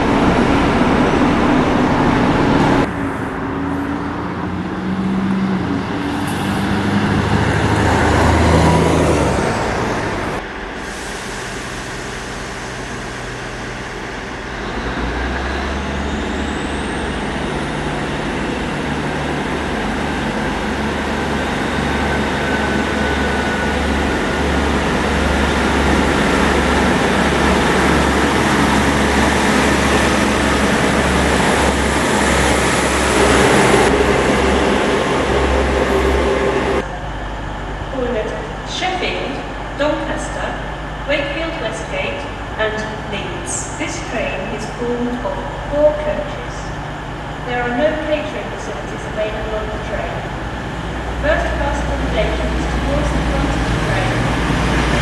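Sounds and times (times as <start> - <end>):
bus passing: 0.0 - 55.0
diesel train engine drone: 0.0 - 55.0
road traffic: 0.0 - 55.0.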